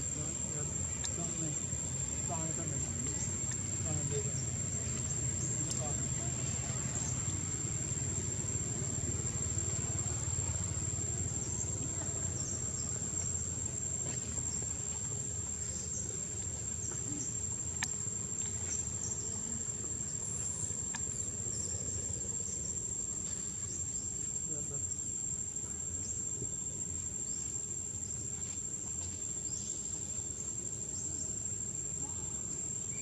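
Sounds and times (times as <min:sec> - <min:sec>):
faint chirps: 0:00.0 - 0:33.0
insect trill: 0:00.0 - 0:33.0.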